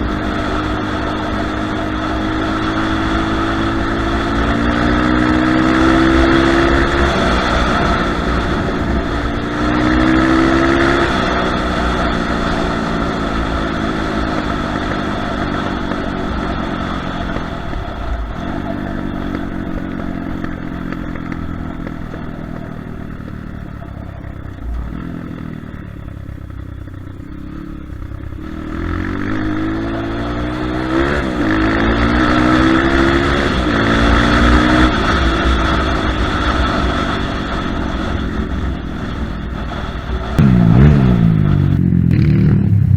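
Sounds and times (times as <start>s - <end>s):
pit bike engine revving: 0.0s - 42.9s.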